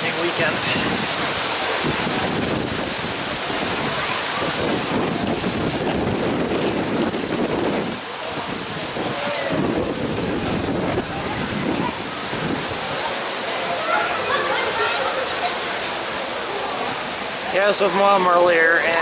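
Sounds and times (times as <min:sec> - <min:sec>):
strong wind buffeting microphone: 0:00.0 - 0:17.5.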